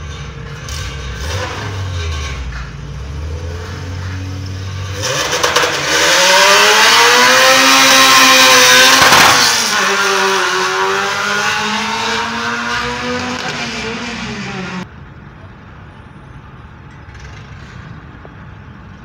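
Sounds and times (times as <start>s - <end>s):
car engine idling and revving: 0.0s - 15.4s.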